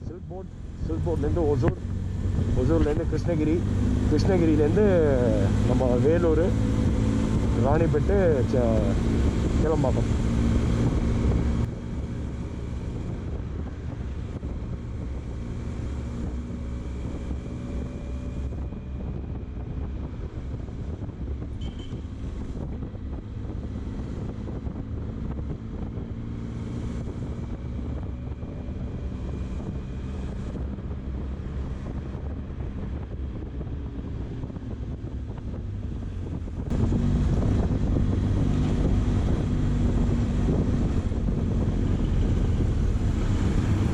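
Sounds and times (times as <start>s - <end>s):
motorcycle engine: 0.0s - 43.9s
wind rushing on microphone: 0.0s - 43.9s.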